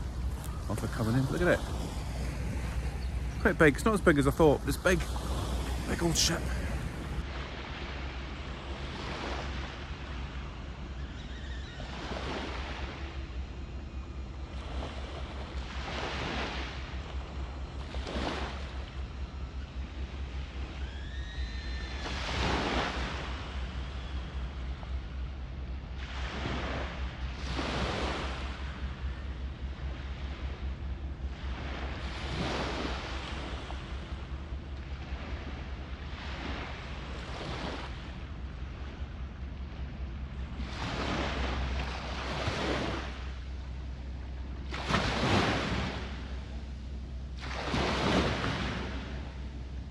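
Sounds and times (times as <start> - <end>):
steady low rumble: 0.0 - 11.2, 11.8 - 49.9
waves lapping on shore: 0.0 - 49.9.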